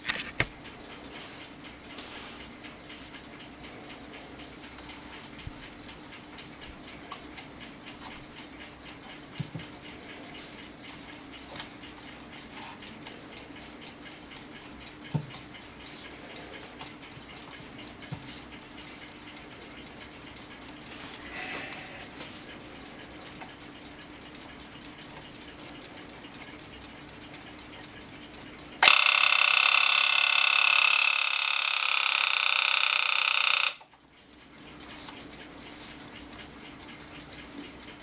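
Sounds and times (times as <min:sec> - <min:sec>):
alarm clock ticking: 0:00.1 - 0:38.0.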